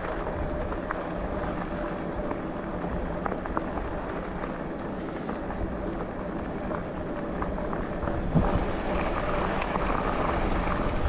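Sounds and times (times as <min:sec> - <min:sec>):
small clicks and rattles: 0:00.0 - 0:10.8
bicycle tyre and wind noise: 0:00.0 - 0:11.0
faint steady whine: 0:00.0 - 0:11.0.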